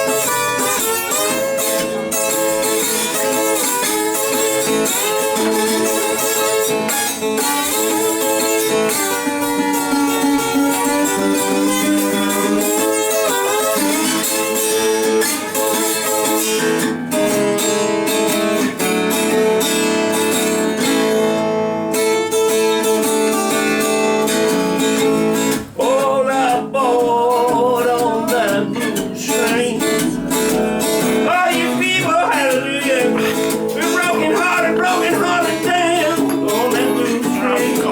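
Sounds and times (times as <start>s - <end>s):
acoustic guitar blues playing: 0.0s - 37.9s.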